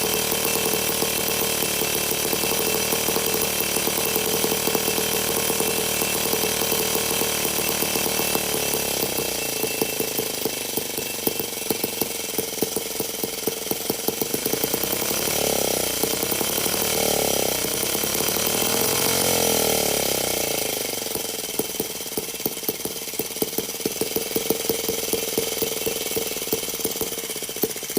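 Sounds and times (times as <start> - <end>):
model engine running: 0.0 - 27.9.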